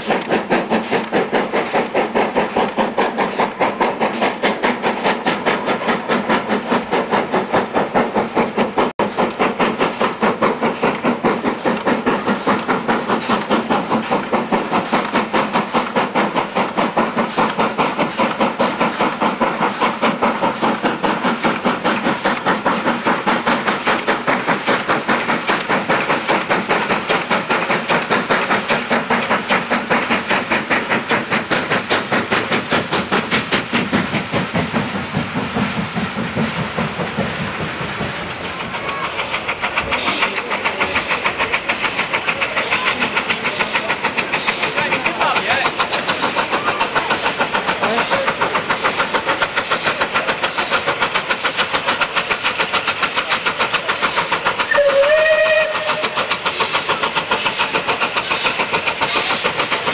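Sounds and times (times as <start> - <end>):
steady steam hiss: 0.0 - 59.9
steam locomotive exhaust beats: 0.0 - 59.9.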